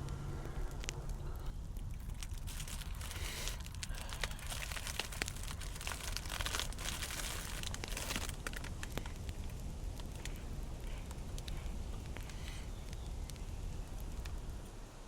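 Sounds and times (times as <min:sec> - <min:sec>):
crinkling and rustling: 0:00.0 - 0:14.5
low rumble: 0:00.0 - 0:14.9.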